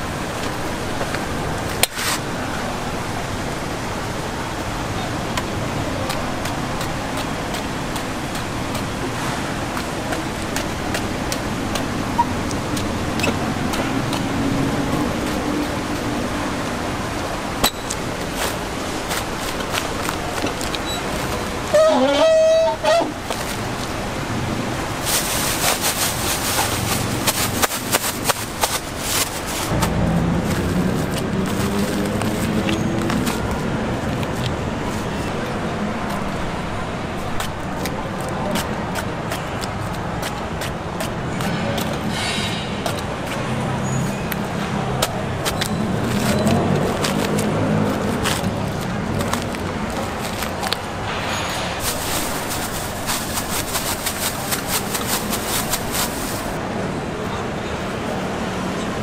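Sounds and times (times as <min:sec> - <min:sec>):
steady rushing background noise: 0:00.0 - 0:21.8, 0:23.1 - 0:59.0
vehicle engine humming: 0:00.0 - 0:59.0.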